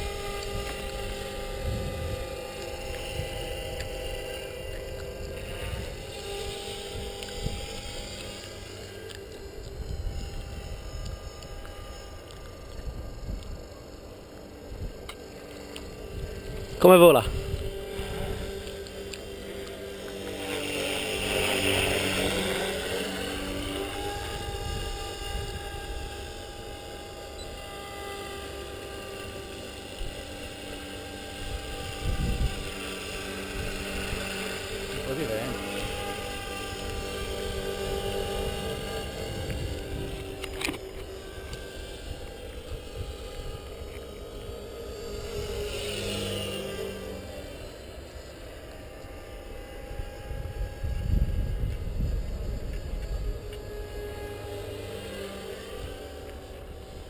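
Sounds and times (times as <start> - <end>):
rc helicopter whine flying by: 0.0 - 57.0
wind rumbling on microphone: 0.0 - 57.0.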